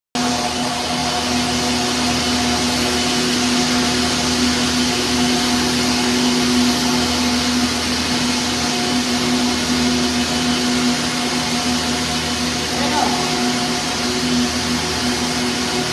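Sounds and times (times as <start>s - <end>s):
constant hum: 0.2s - 15.9s
knitting machines whirring hiss: 0.2s - 15.9s.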